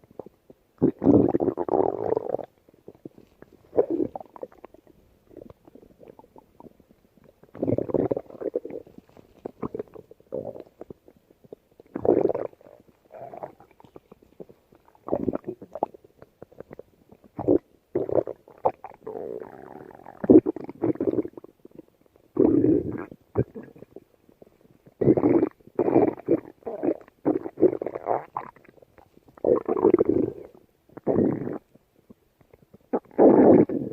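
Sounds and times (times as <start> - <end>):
stomach growling: 0.0 - 33.9.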